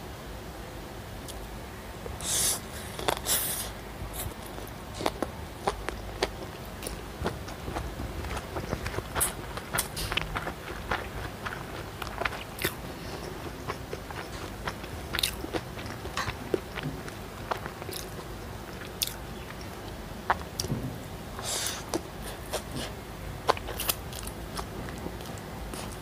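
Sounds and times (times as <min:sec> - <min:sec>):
chewing noodles: 0:02.9 - 0:20.7, 0:21.4 - 0:26.0.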